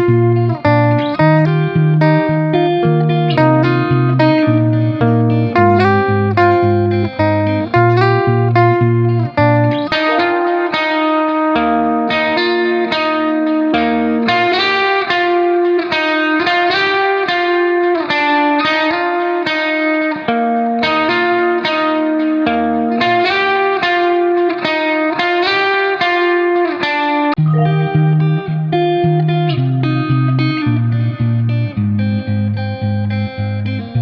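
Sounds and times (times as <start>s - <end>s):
plucked guitar melody: 0.0s - 34.0s.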